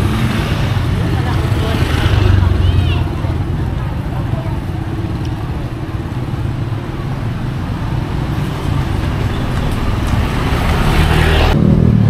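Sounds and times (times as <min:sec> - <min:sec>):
traffic engines humming: 0:00.0 - 0:12.0.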